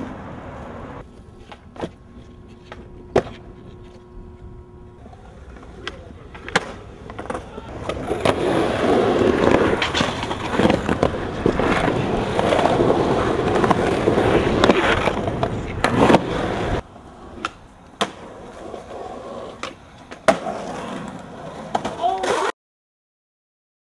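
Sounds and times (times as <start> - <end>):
skateboard clacks: 0.0 - 4.0, 5.0 - 22.5
skateboard wheels rolling on concrete: 0.0 - 22.5.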